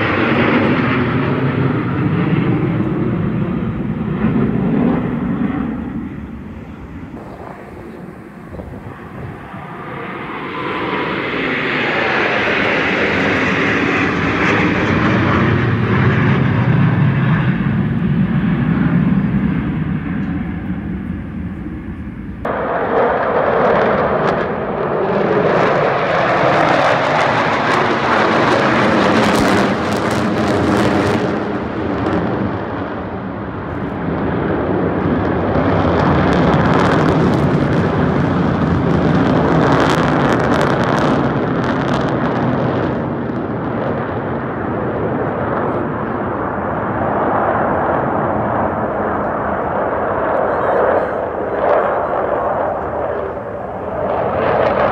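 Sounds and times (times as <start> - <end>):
jet engines roaring overhead: 0.0 - 54.9
jet whine falling in pitch: 0.0 - 54.9.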